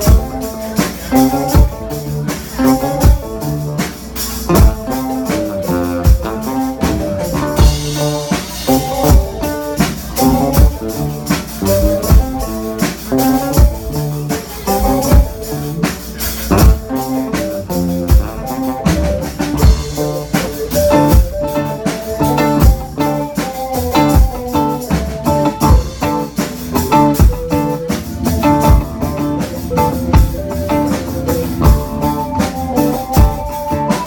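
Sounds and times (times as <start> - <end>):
band playing a song: 0.0 - 34.0
drum kit beat: 0.0 - 34.0.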